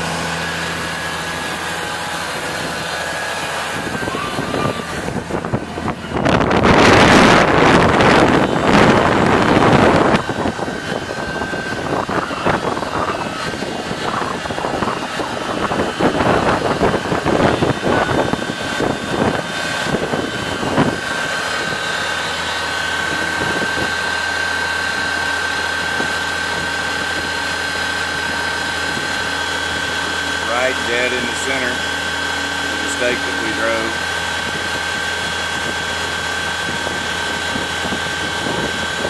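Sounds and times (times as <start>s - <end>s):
constant high whine: 0.0s - 39.0s
tractor diesel engine: 0.0s - 39.0s
tractor rumbling over ground: 0.0s - 39.0s.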